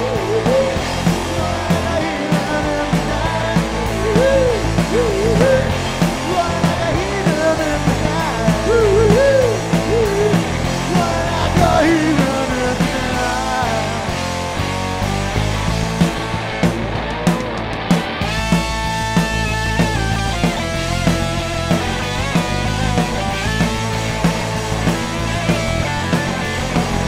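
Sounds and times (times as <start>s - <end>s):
guitar lead line bending: 0.0s - 27.0s
live rock band playing: 0.0s - 27.0s.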